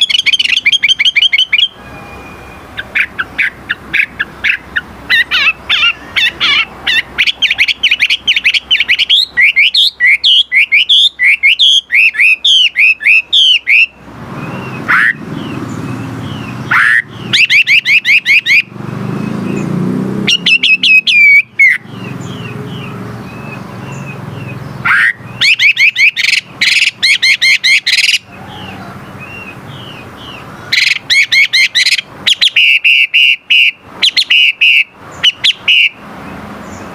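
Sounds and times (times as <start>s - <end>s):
songbird chattering and whistling: 0.0s - 36.9s.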